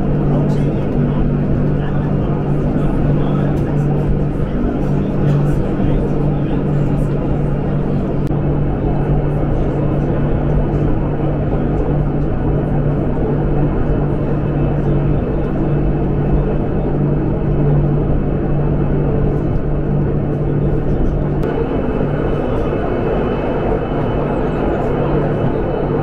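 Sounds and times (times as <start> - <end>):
continuous low hum: 0.0 - 26.0
railcar running gear rumble: 0.0 - 26.0.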